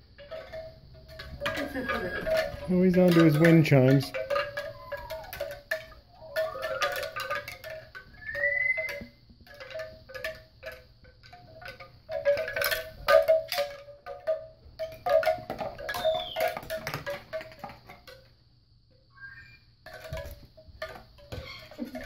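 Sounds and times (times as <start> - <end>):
bamboo wind chime clattering: 0.0 - 22.0.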